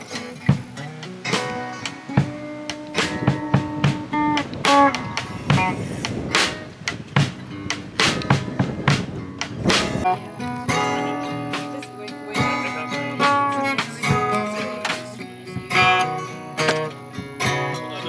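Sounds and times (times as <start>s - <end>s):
acoustic guitar strumming and plucking: 0.0s - 18.0s.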